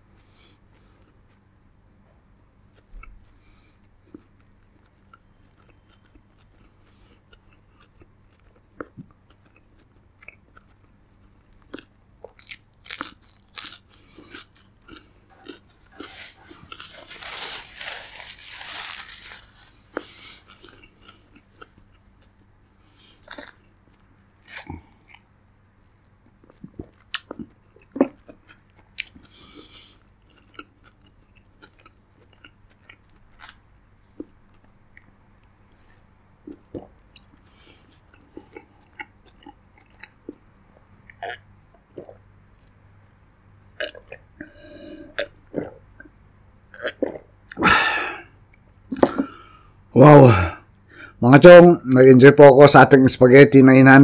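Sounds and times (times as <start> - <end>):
person chewing crunchy food: 2.6 - 25.3, 26.0 - 42.8, 43.8 - 48.3.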